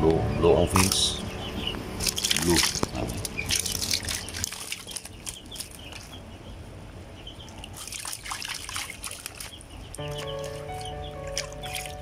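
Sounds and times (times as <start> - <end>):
water sloshing and splashing: 1.8 - 12.0.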